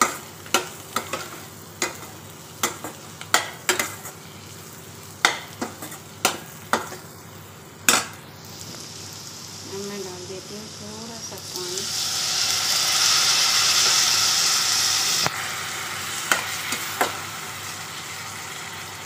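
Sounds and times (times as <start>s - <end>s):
onions sizzling: 0.0s - 19.0s.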